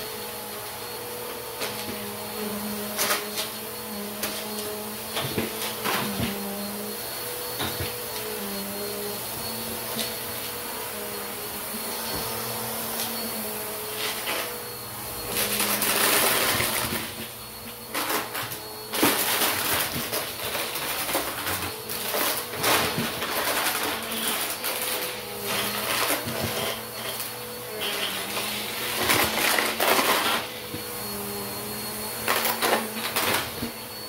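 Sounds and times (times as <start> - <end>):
vacuum cleaner running on carpet: 0.0 - 34.0.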